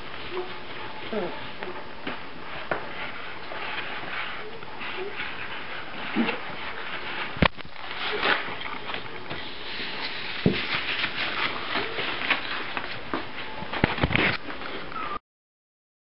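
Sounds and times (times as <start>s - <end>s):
puppies rustling and scuffling: 0.0s - 15.2s.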